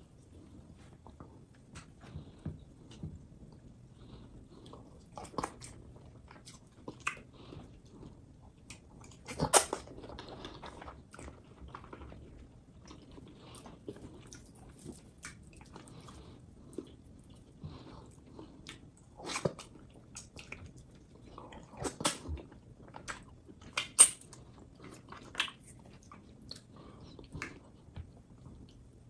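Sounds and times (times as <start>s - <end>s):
close chewing and mouth sounds: 0.0s - 29.0s.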